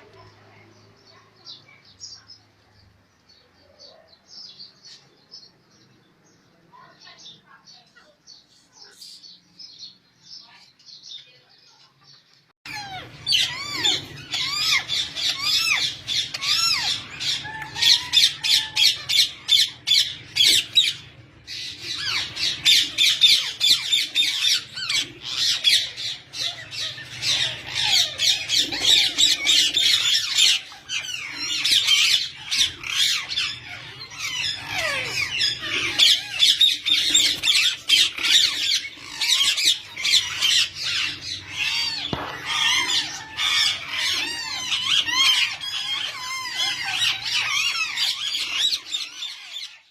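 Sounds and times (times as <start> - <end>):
parakeets chattering and squawking: 0.0 - 49.9.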